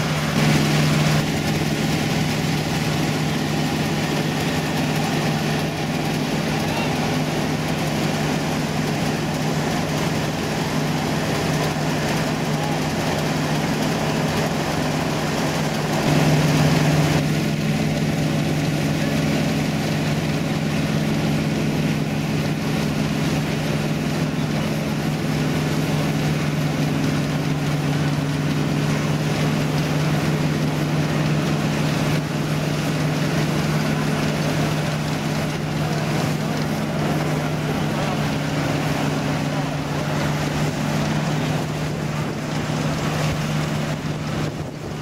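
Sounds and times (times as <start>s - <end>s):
combine harvester engine drone: 0.0s - 45.0s.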